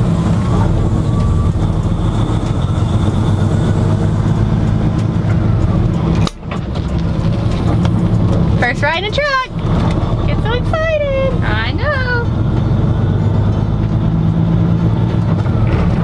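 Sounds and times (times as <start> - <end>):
road noise: 0.0 - 16.0
truck diesel engine drone: 0.0 - 16.0.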